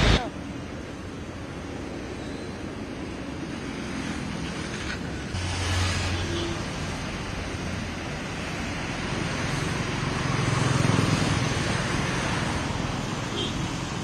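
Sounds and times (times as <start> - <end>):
rain: 0.0 - 14.0
traffic on wet road: 0.0 - 14.0.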